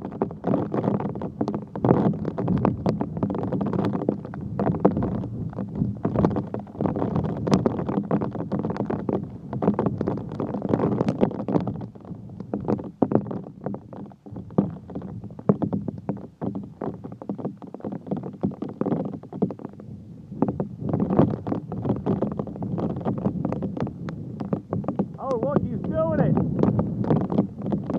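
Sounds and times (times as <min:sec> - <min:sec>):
strong wind buffeting microphone: 0:00.0 - 0:17.6, 0:19.2 - 0:27.9.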